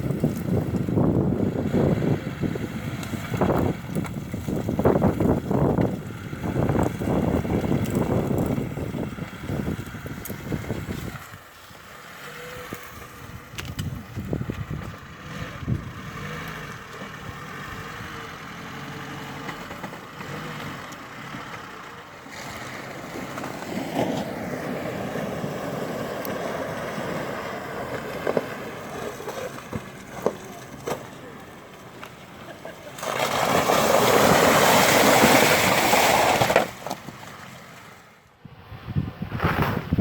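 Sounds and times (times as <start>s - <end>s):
off-road engine revving: 0.0s - 40.0s.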